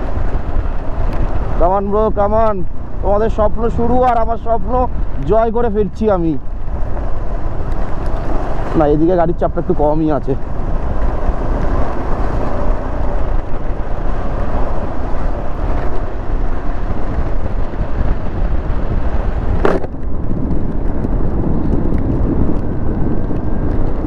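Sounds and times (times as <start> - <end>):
motorcycle engine and road noise: 0.0 - 24.0.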